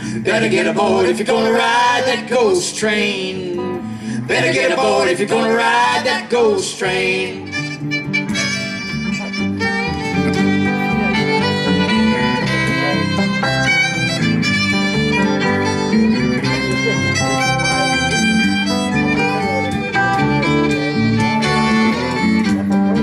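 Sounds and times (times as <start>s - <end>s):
guitar and bass accompaniment: 0.0s - 23.0s
fiddle melody: 3.6s - 23.0s.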